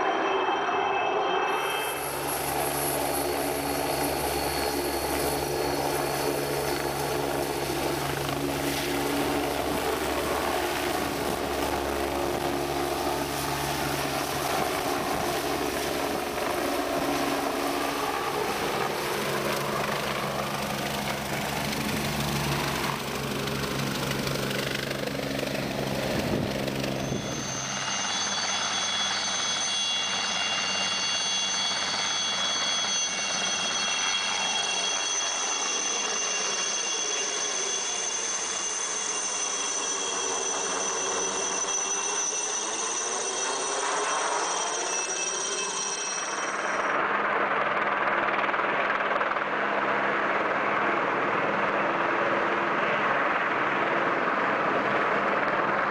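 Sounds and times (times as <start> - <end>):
helicopter engine and rotor: 0.0 - 55.9
high-pitched turbine whine: 0.0 - 55.9.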